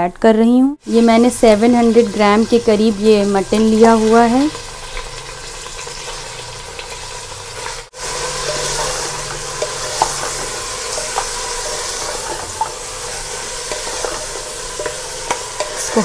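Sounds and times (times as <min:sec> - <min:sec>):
meat sizzling in hot oil: 0:00.8 - 0:16.0.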